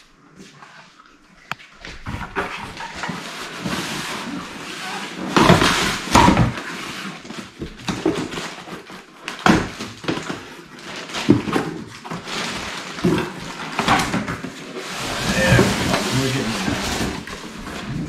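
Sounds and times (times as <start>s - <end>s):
cardboard rustling and scraping: 1.9s - 18.0s.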